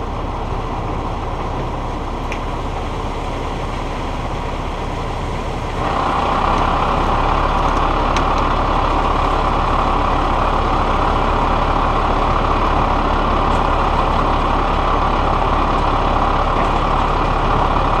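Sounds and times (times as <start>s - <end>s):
diesel engine at raised speed: 0.0s - 18.0s.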